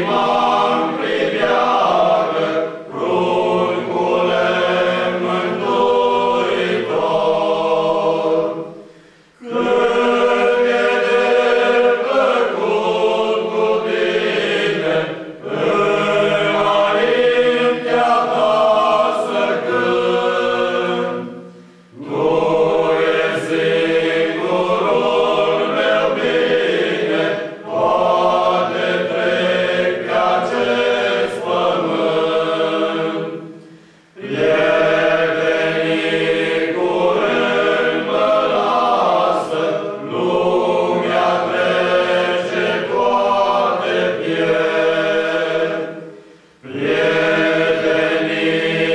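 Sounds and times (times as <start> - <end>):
male choir singing a cappella: 0.0 - 48.9.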